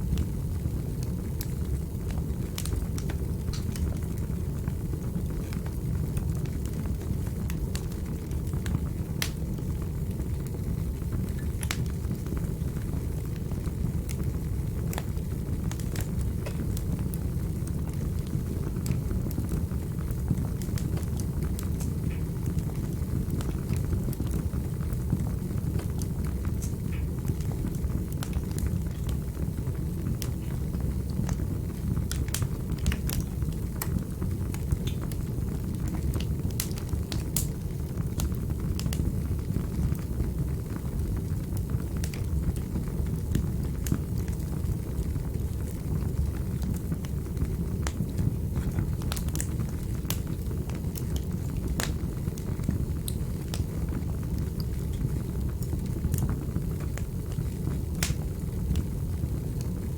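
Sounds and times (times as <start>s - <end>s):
fire crackling in a fireplace: 0.0s - 59.9s
low rumble of flames: 0.0s - 59.9s.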